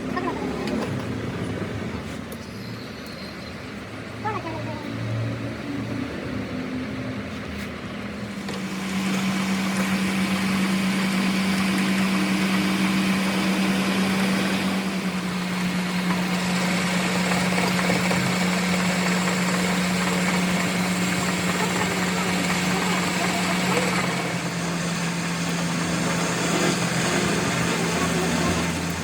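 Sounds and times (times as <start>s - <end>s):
motor humming and hissing: 0.0s - 29.0s.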